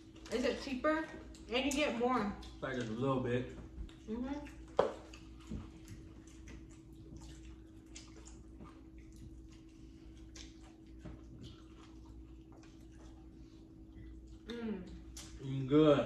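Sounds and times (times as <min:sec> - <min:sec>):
faint steady hum: 0:00.0 - 0:16.0
people chewing crispy chicken: 0:02.2 - 0:15.7.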